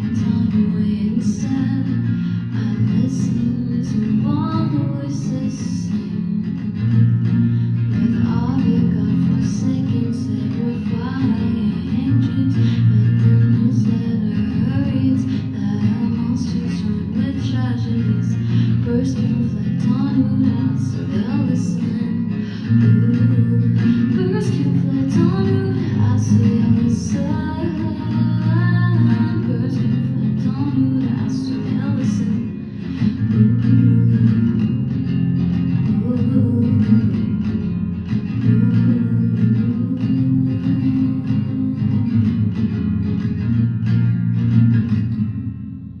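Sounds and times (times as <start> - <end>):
guitar music: 0.0 - 46.0.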